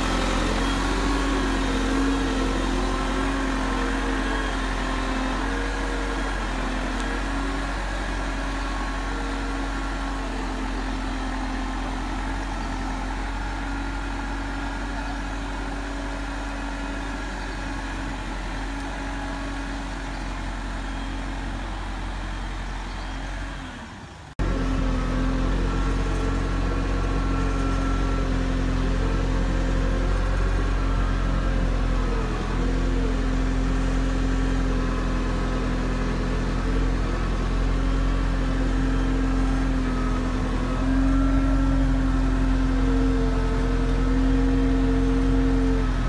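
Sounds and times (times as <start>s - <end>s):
construction machine engine running: 0.0s - 46.0s.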